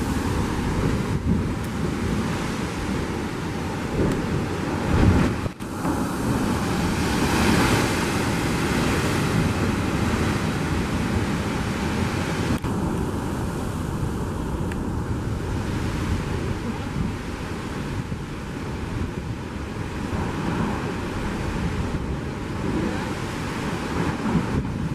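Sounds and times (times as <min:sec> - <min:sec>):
sea surf breaking on rocks: 0:00.0 - 0:24.9
wind buffeting microphone: 0:00.0 - 0:24.9.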